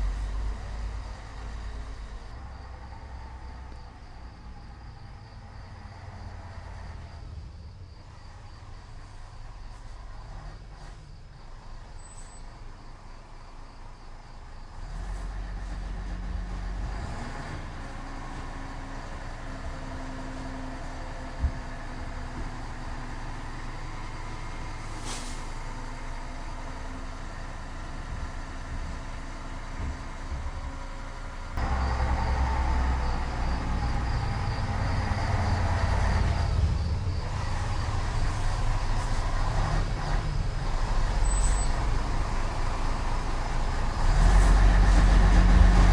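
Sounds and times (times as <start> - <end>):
crickets chirping: 0.0 - 44.8.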